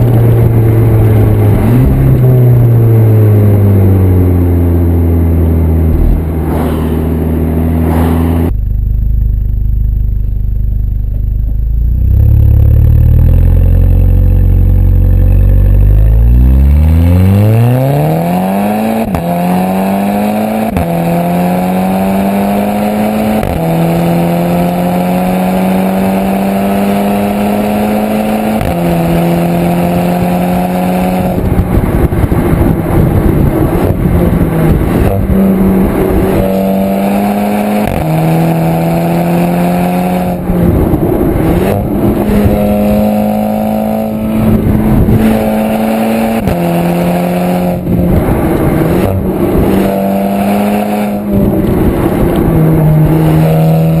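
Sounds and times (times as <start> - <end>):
car exhaust revving with upshifts: 0.0 - 54.0.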